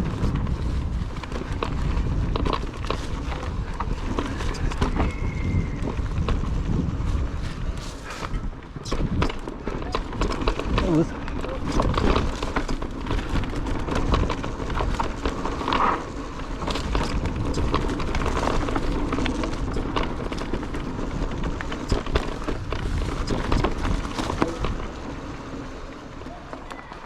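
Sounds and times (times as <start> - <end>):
bike clattering over bumps: 0.0 - 27.0
bike tyre noise: 0.0 - 27.0
wind rumble on microphone: 0.0 - 27.0.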